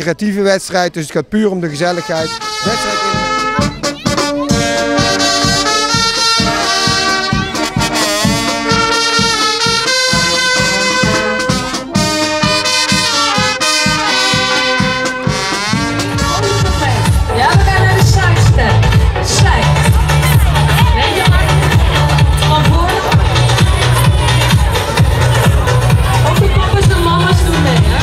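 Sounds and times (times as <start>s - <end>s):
brass band playing: 1.8s - 28.0s
low steady beat: 2.2s - 28.0s.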